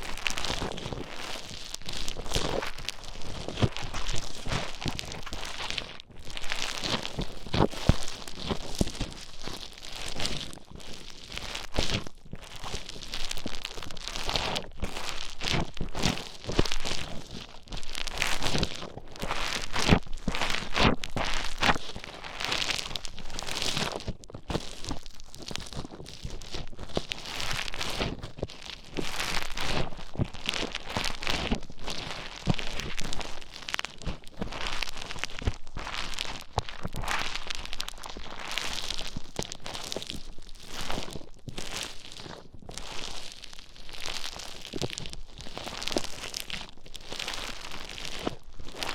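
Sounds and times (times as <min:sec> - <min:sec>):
foam beads crackling and squishing: 0:00.0 - 0:48.9.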